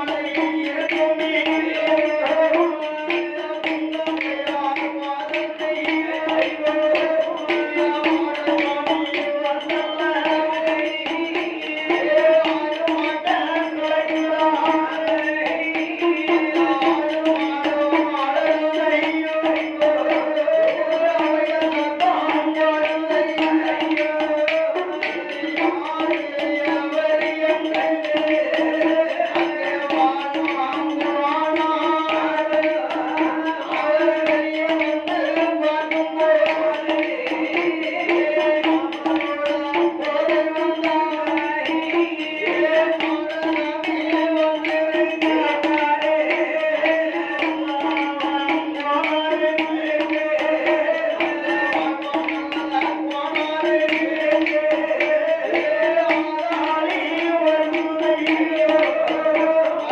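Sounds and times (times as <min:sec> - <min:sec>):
fast dense percussion: 0:00.0 - 0:59.9
men singing: 0:00.0 - 0:59.9.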